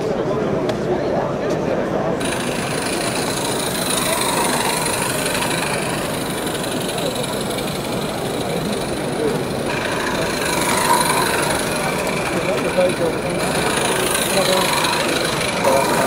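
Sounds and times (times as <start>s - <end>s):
chatter of many voices: 0.0s - 16.0s
model trains running: 0.0s - 16.0s.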